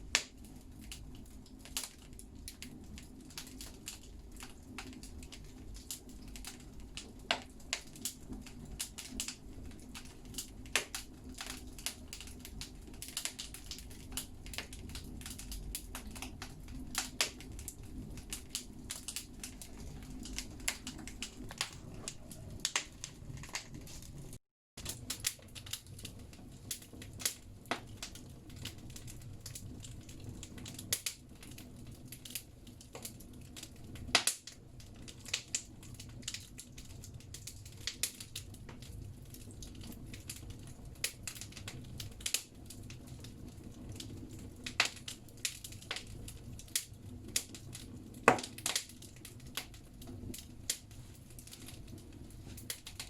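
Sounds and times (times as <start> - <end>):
logs burning in a stove: 0.0 - 53.0.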